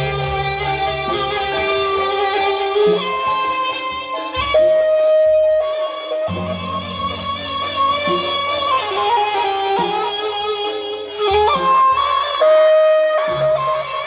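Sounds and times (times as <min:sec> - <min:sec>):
bamboo flute melody: 0:00.0 - 0:14.0
cymbal clashes: 0:00.0 - 0:14.0.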